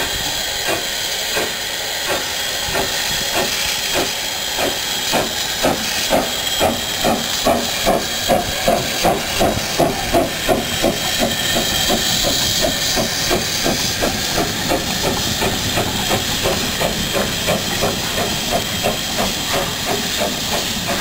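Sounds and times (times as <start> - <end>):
steam hissing: 0.0 - 21.0
steam locomotive chuffing: 0.0 - 21.0.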